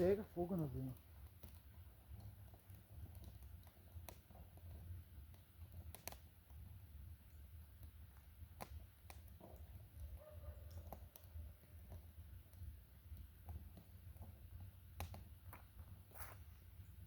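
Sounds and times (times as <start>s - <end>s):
twigs snapping in campfire: 0.0s - 17.0s.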